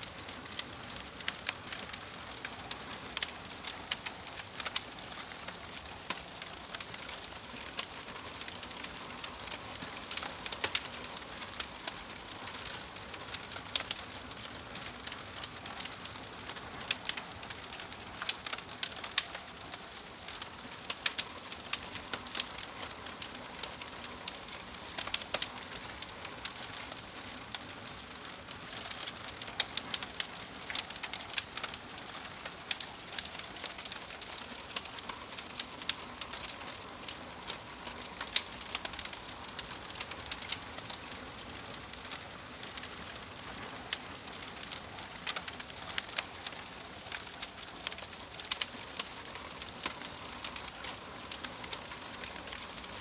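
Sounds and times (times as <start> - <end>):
fire crackling and popping: 0.0 - 53.0.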